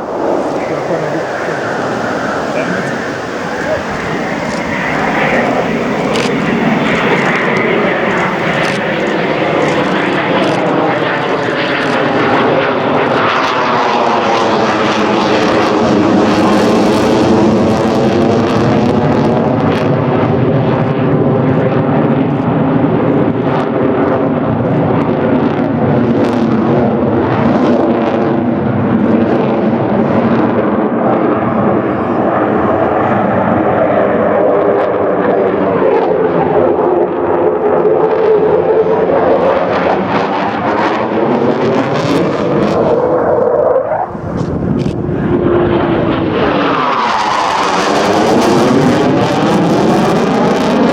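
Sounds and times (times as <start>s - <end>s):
fighter jet flying past: 0.0s - 50.9s.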